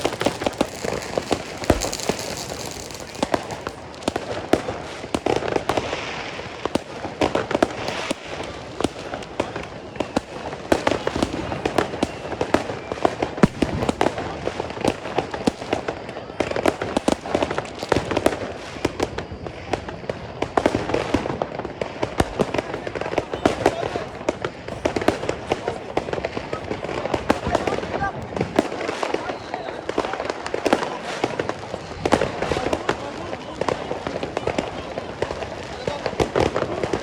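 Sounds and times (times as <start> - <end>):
fireworks bangs and crackling pops: 0.0 - 37.0.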